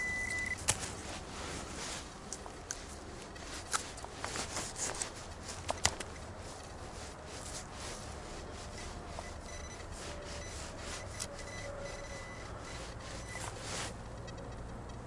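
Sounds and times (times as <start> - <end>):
scratchy rubbing and scraping: 0.4 - 14.3.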